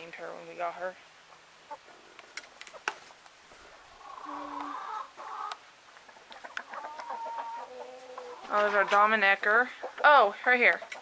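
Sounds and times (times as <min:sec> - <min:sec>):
hens clucking: 0:01.3 - 0:11.0.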